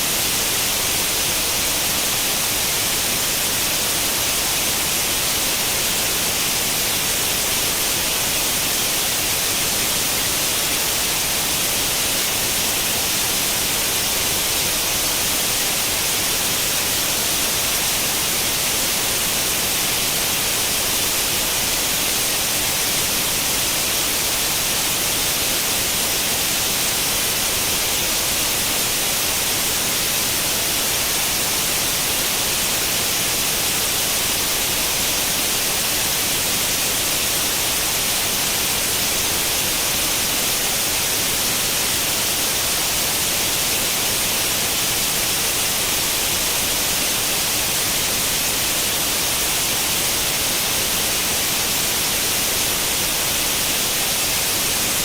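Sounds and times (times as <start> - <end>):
white noise static hiss: 0.0 - 55.0.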